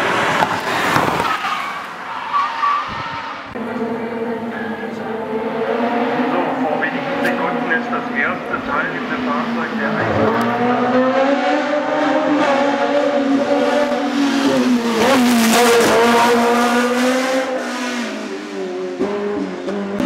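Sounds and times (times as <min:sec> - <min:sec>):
racing car engine high revs: 0:03.2 - 0:20.0.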